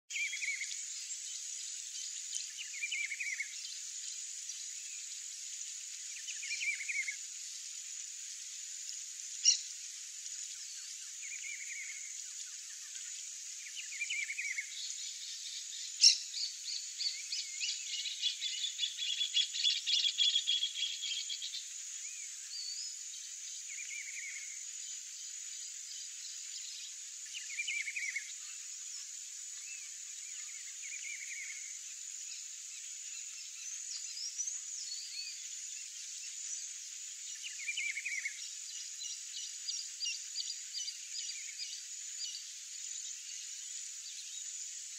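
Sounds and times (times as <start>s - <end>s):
high-pitched insect hiss: 0.1s - 44.9s.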